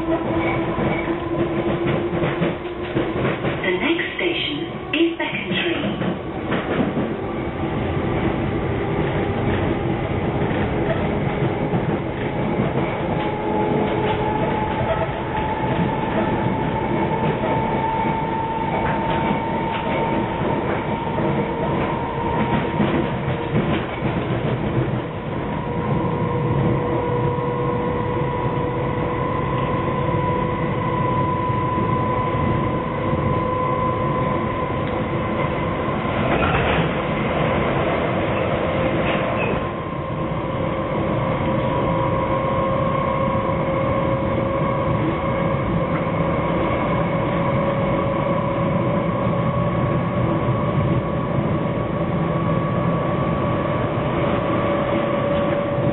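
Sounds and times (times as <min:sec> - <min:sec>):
train wheels rumbling on track: 0:00.0 - 0:55.9.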